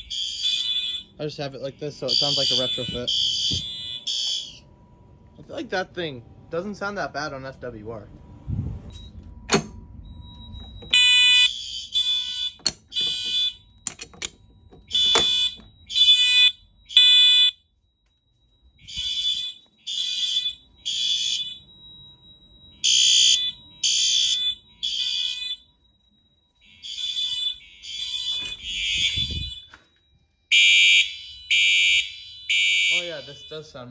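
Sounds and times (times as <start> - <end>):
fire alarm horn blasts: 0.0 - 8.5, 9.4 - 33.9.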